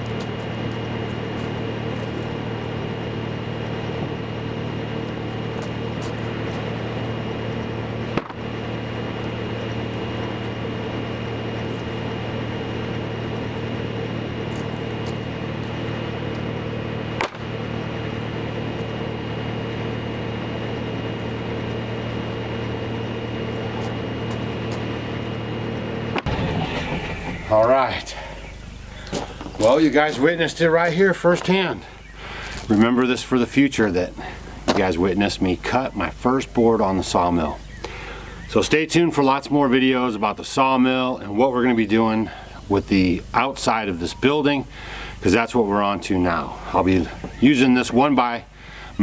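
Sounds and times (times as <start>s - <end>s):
engine droning: 0.0s - 49.0s
high whine: 0.0s - 49.0s.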